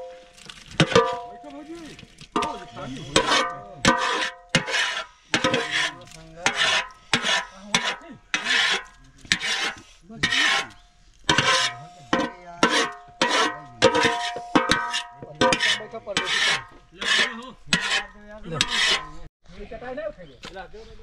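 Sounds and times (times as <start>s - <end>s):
metal pan scraping and ringing: 0.0s - 1.6s, 2.4s - 19.3s.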